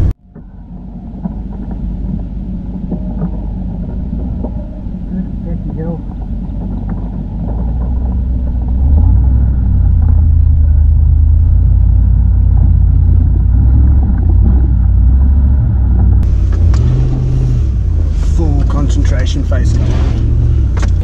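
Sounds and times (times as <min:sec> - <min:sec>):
engine deep rumble: 0:00.0 - 0:21.0.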